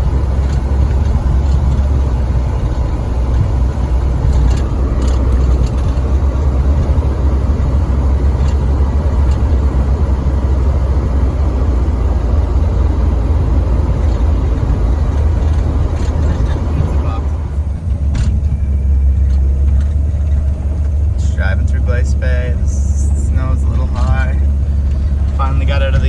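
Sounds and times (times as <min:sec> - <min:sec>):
snow plow engine rumbling: 0:00.0 - 0:26.0.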